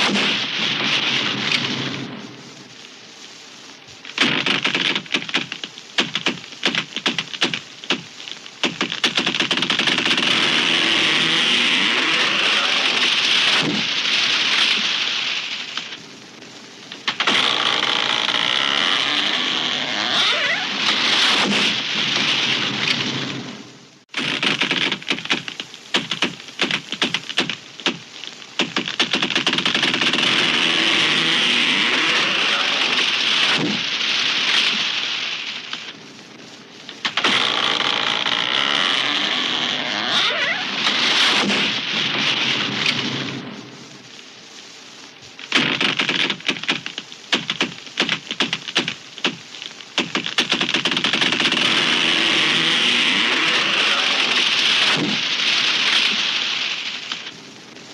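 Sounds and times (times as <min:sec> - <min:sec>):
crash of branches and leaves: 0:00.0 - 0:57.9
tree cracking and splintering: 0:03.9 - 0:44.1, 0:44.7 - 0:57.9.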